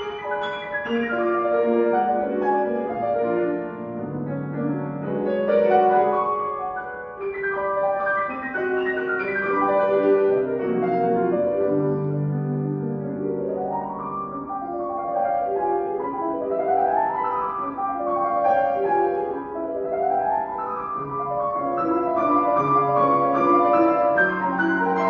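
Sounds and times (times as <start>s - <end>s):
piano playing: 0.0s - 25.0s.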